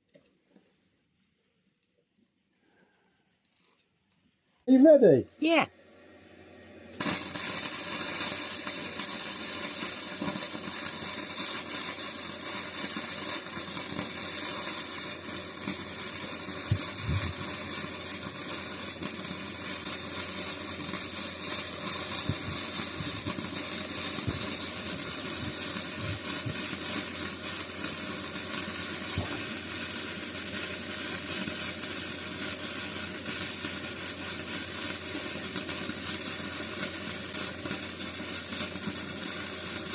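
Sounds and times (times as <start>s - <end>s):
welding arc sizzling: 6.9s - 39.9s.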